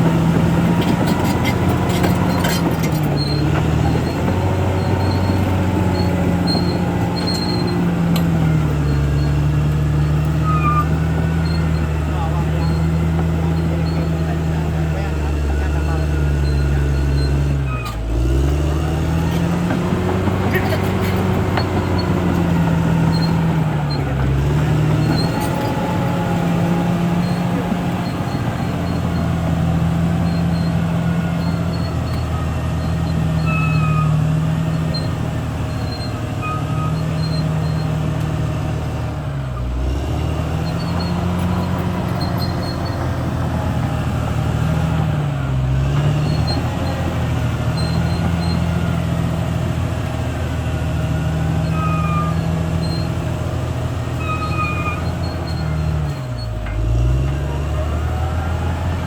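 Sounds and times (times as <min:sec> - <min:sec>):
bulldozer diesel engine running: 0:00.0 - 0:59.0
faint high squeaks: 0:00.4 - 0:38.3, 0:40.5 - 0:49.2, 0:51.1 - 0:53.4, 0:54.0 - 0:59.0.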